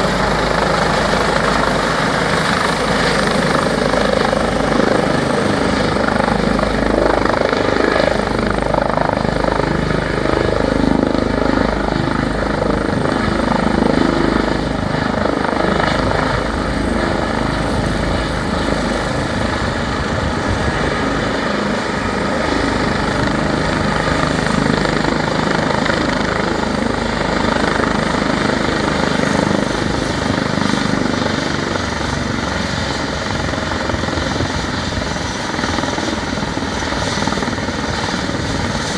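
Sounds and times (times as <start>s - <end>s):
helicopter rotor and turbine: 0.0s - 38.9s.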